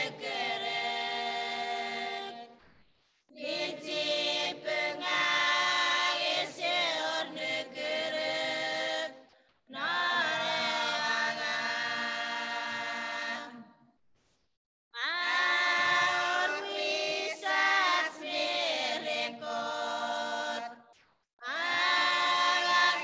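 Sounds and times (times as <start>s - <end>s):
group singing unaccompanied: 0.0s - 2.7s, 3.3s - 13.9s, 15.0s - 23.0s.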